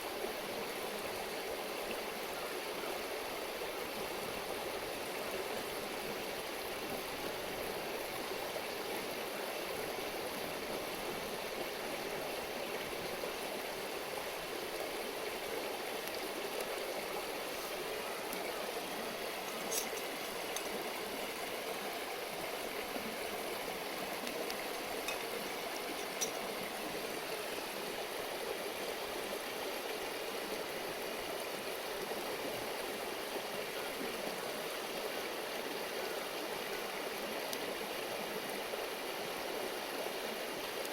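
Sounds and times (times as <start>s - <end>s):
river water babbling over stones: 0.0s - 40.9s.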